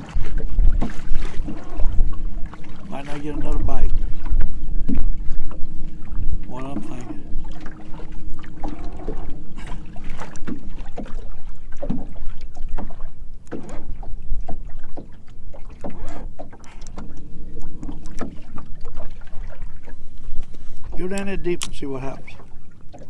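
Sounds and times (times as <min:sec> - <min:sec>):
low wind rumble: 0:00.0 - 0:23.0
water slapping against boat hull: 0:00.0 - 0:23.0.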